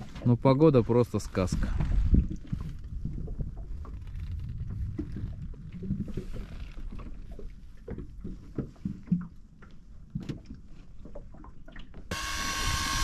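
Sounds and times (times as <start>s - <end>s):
waves lapping against boat hull: 0.0s - 12.1s.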